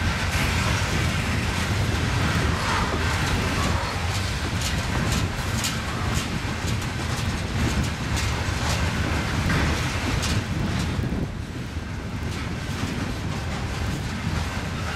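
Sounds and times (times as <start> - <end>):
freight train rumble: 0.0 - 14.9
wheels clicking over rail joints: 0.0 - 14.9.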